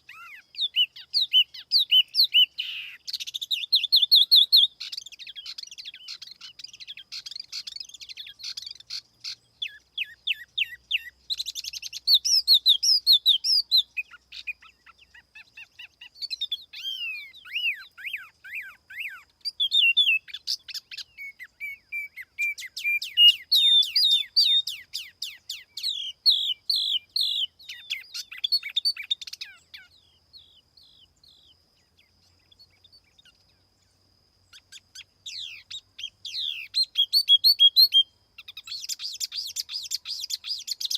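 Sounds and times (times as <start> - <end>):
songbird chirping and whistling: 0.0 - 40.9.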